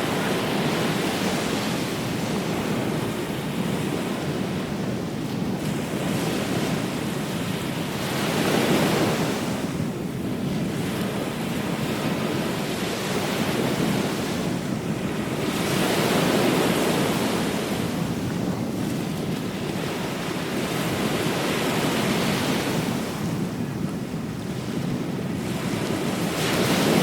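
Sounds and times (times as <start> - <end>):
ocean waves breaking: 0.0 - 27.0
wind on microphone: 0.0 - 27.0.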